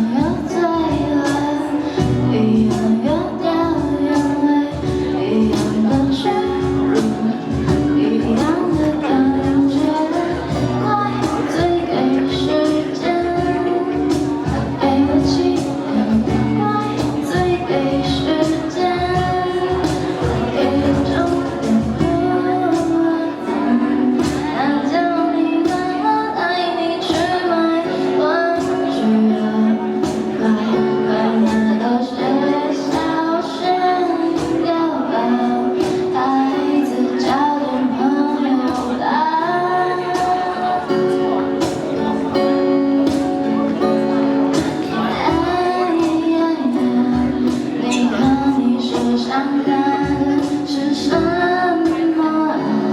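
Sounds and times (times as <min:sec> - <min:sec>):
drum kit beating: 0:00.0 - 0:26.1, 0:27.0 - 0:29.0, 0:29.8 - 0:37.6, 0:39.9 - 0:52.9
guitar: 0:00.0 - 0:52.9
woman singing: 0:00.0 - 0:52.9.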